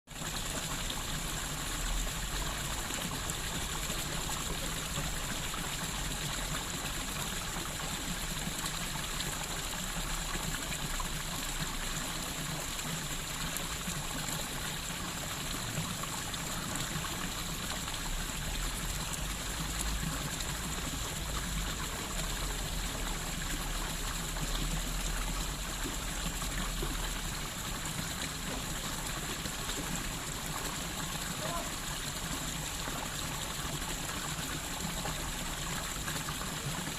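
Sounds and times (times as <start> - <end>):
water fountain splashing: 0.1 - 36.9.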